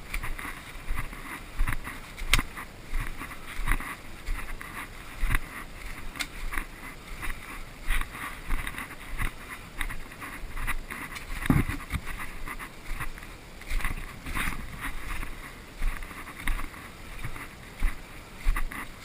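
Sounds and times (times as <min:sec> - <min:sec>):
clothing rustling against microphone: 0:00.0 - 0:19.0
footstep thumps: 0:00.0 - 0:19.0.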